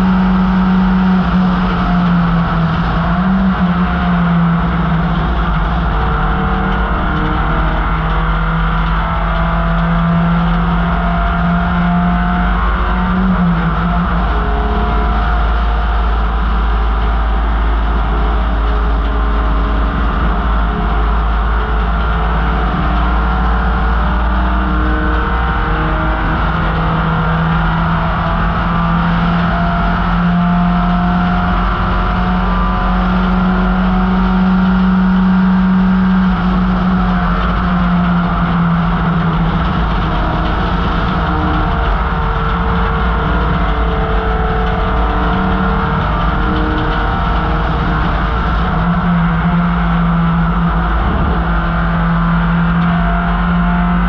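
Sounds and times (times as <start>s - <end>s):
car engine running hard: 0.0s - 54.0s.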